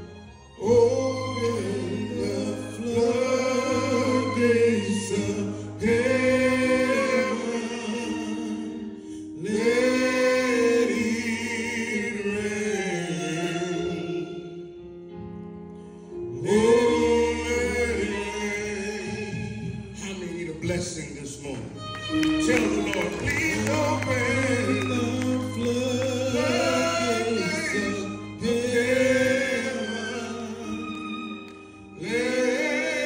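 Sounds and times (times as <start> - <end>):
man singing gospel song: 0.6 - 14.5, 16.4 - 21.0, 22.2 - 33.0.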